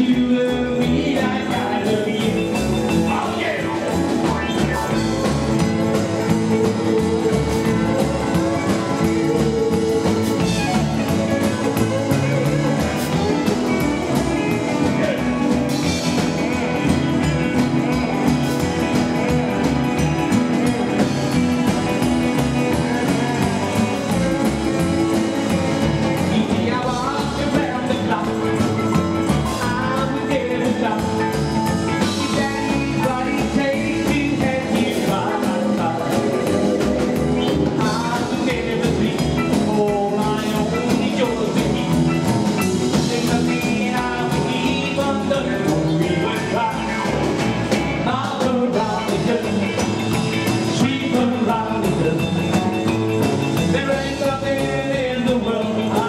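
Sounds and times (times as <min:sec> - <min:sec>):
man singing: 0:00.0 - 0:56.0
rock and roll band playing: 0:00.0 - 0:56.0.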